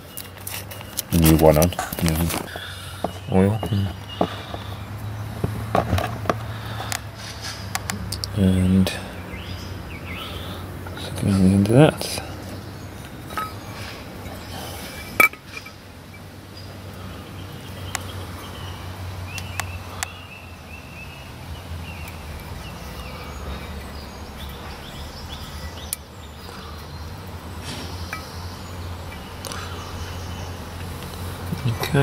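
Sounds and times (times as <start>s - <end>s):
steady low outdoor hum: 0.0s - 32.0s.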